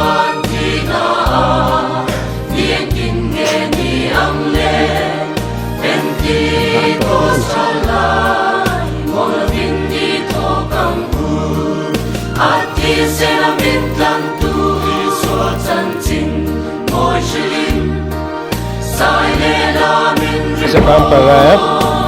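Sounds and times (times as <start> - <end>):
choir song with bass line: 0.0 - 22.0.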